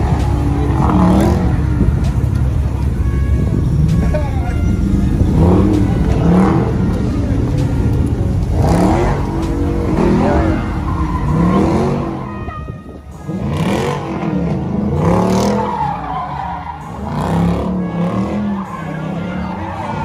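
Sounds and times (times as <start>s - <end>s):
car engine revving: 0.0s - 20.0s
tyres squealing and skidding: 0.0s - 20.0s.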